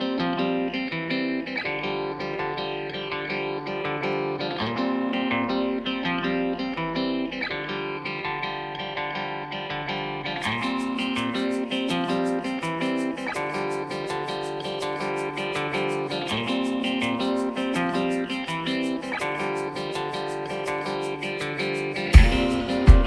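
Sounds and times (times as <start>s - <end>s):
plucked guitar music: 0.0s - 23.0s.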